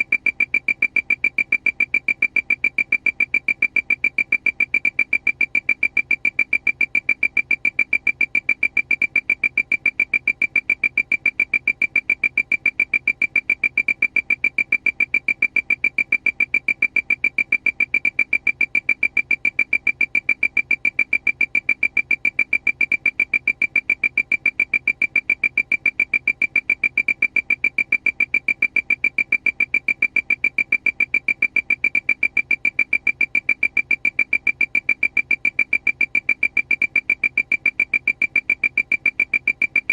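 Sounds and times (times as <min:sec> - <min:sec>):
rapid electronic alarm beeps: 0:00.0 - 0:39.9.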